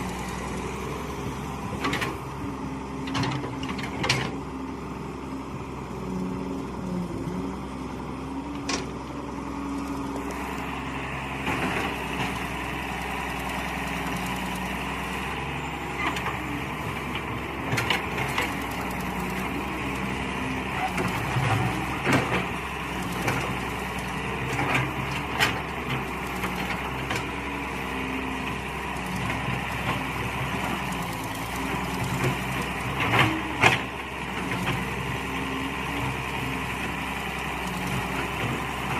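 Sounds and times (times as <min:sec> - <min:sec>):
excavator engine running: 0:00.0 - 0:38.9.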